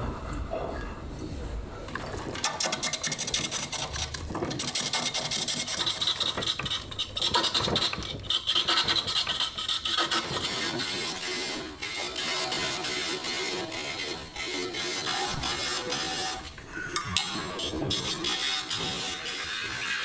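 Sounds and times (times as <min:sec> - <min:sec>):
hand tool scraping green wood: 0:02.4 - 0:16.6, 0:17.6 - 0:20.0.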